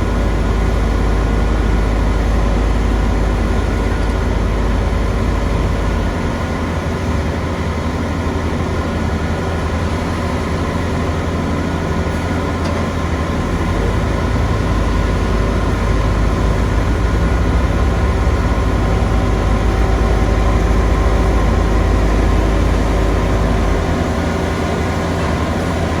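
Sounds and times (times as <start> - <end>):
heavy machinery engine rumbling: 0.0 - 26.0.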